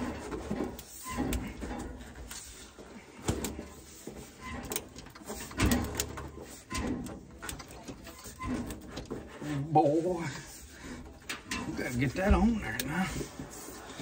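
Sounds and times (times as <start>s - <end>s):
objects knocking and thumping: 0.0s - 9.7s, 10.8s - 13.7s.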